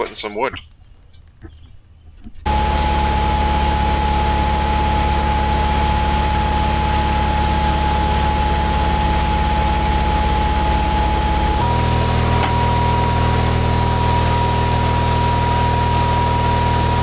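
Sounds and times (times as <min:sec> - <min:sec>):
engine droning: 0:02.4 - 0:17.0
high whine: 0:02.4 - 0:17.0.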